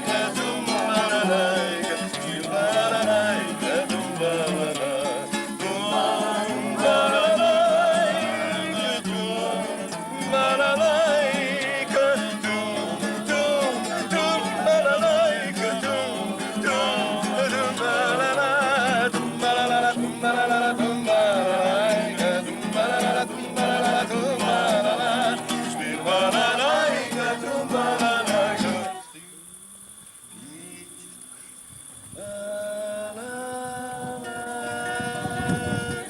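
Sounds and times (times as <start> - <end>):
folk song with vibrato voice: 0.0 - 31.0, 32.0 - 36.0.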